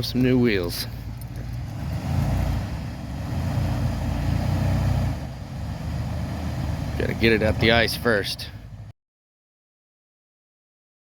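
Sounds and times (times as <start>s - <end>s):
truck engine rumbling: 0.0s - 8.9s.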